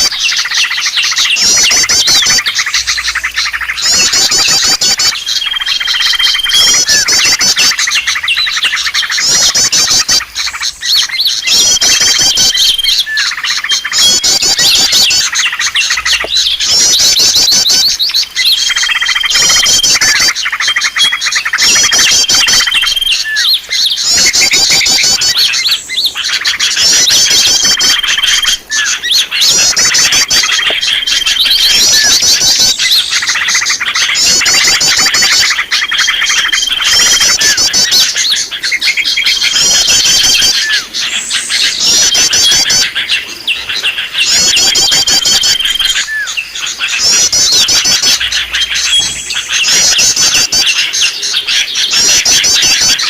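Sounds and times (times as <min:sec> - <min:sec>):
rapid high bird trills: 0:00.0 - 0:53.0
songbirds chirping: 0:00.0 - 0:53.0.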